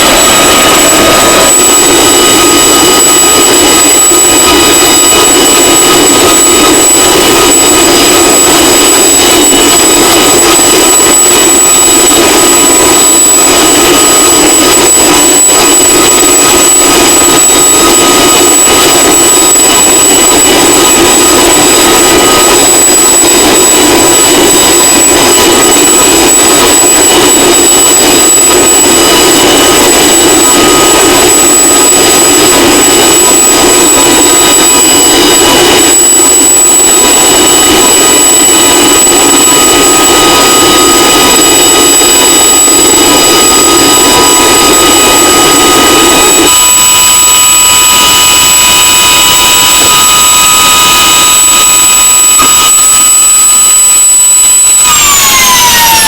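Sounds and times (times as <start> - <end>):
helicopter engines roaring: 0.0 - 48.2.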